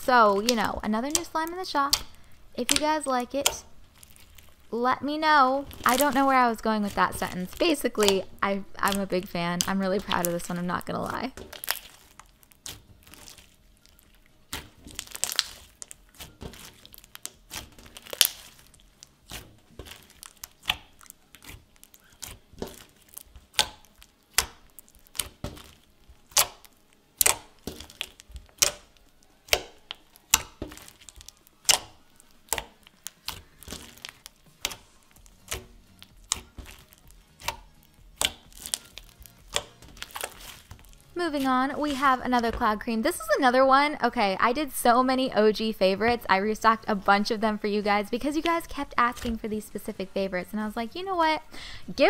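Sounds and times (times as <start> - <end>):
slime squishing with bead pops: 0.0 - 4.7, 5.4 - 42.8.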